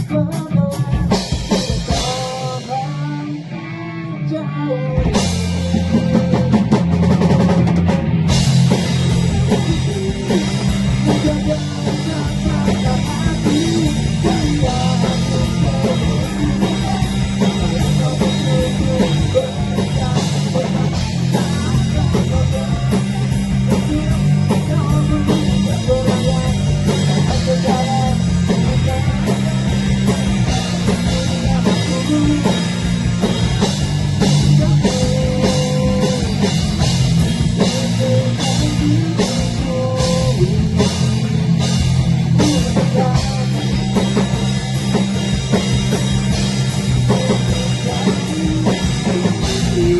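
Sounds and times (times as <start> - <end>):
drum kit beat: 0.0 - 3.7, 4.8 - 49.9
electric guitars: 0.0 - 49.9.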